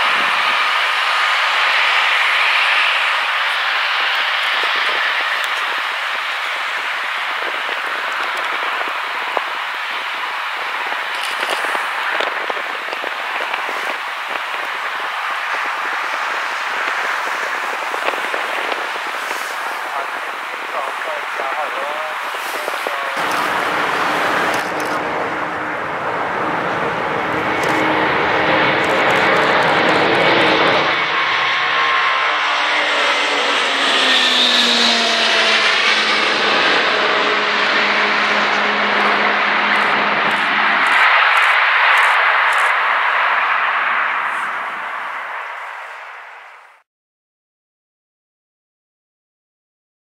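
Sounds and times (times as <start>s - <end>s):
crackling jet engine roar: 0.0s - 46.8s.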